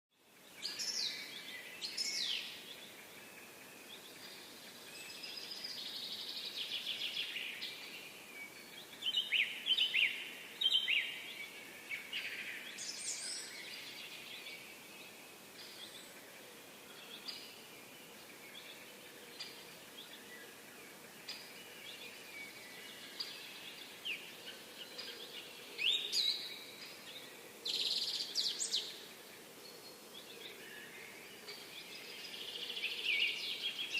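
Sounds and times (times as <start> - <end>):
faint steady background hiss: 0.2 - 33.9
birds chirping and singing: 0.6 - 20.6, 21.2 - 33.9.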